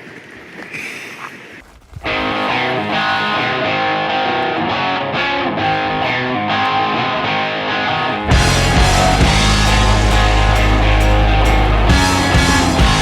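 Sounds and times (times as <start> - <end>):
background guitar music: 2.1 - 13.0.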